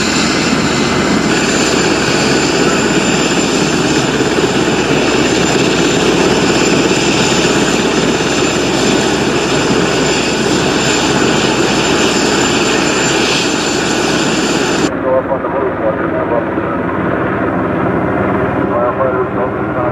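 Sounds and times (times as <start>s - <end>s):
helicopter rotor and engine: 0.0s - 19.9s.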